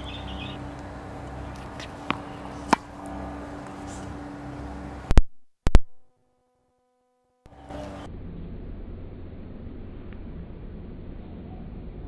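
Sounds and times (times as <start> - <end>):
steady background hum: 0.0 - 6.5, 7.4 - 12.0.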